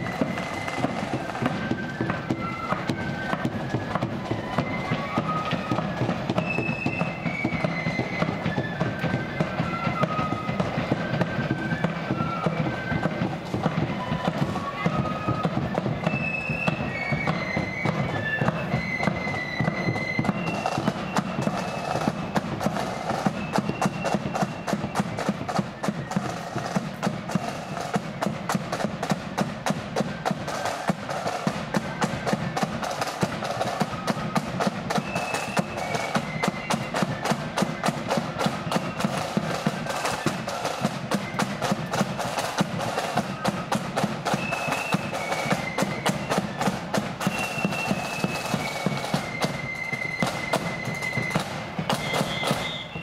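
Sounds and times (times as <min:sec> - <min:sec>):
high flute notes: 0:00.0 - 0:53.0
marching drums: 0:00.0 - 0:53.0.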